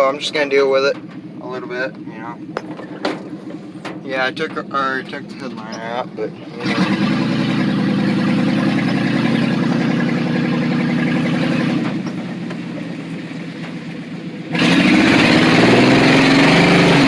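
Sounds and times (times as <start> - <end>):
pickup truck engine revving: 0.0 - 17.0.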